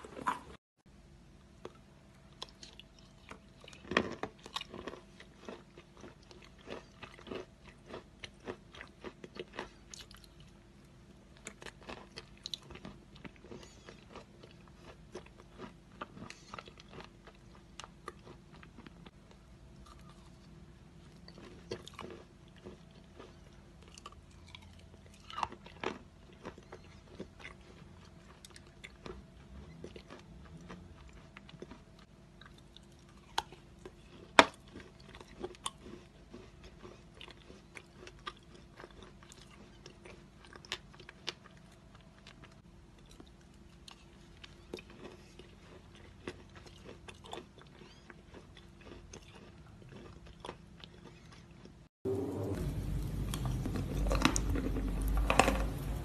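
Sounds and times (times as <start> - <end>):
faint steady hum: 0.0 - 56.0
wet crunching and chewing: 1.6 - 56.0.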